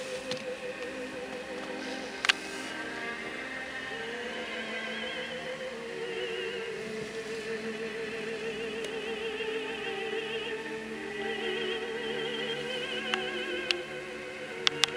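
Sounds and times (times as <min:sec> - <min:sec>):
operatic singing with vibrato: 0:00.0 - 0:14.9.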